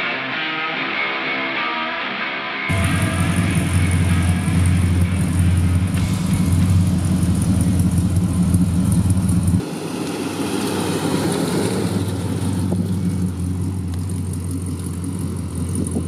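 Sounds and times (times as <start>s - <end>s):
car engine idling: 2.7s - 16.0s.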